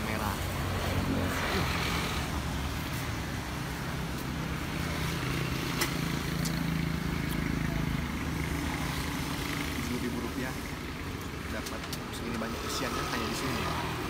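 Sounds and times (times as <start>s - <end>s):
vehicle passing: 0.0s - 11.6s, 12.2s - 14.0s.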